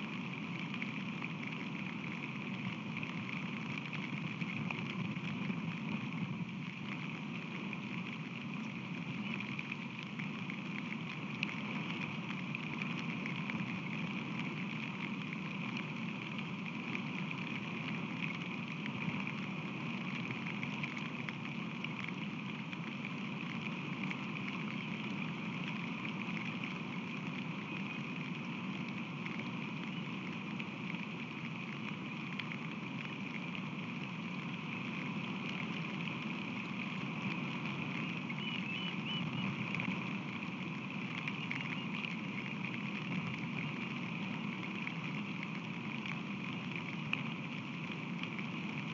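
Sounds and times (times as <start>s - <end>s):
rain drop ticks: 0.0s - 48.9s
steady rain falling: 0.0s - 48.9s.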